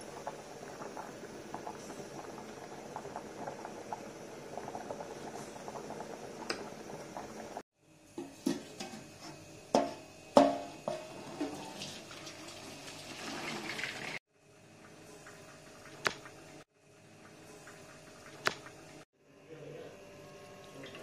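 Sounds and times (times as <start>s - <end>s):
water boiling and bubbling: 0.0s - 7.6s, 9.5s - 19.0s.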